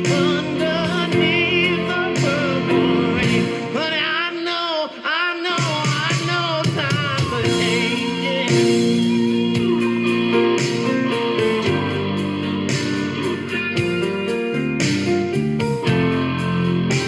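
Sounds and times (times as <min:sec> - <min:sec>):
steady drum beat: 0:00.0 - 0:03.8, 0:05.6 - 0:17.0
electric guitar chords: 0:00.0 - 0:04.7, 0:06.0 - 0:17.0.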